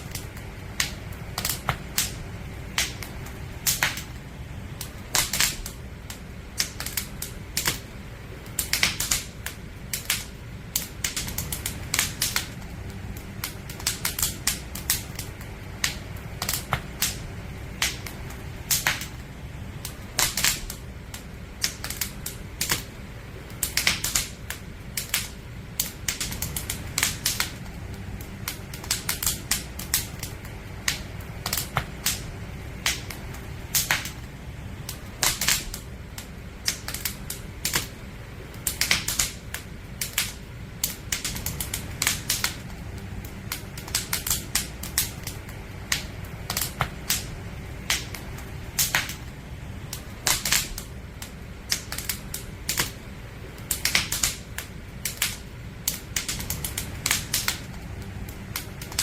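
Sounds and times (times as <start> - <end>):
flames rushing: 0.0 - 59.0
wood fire crackling: 0.0 - 59.0.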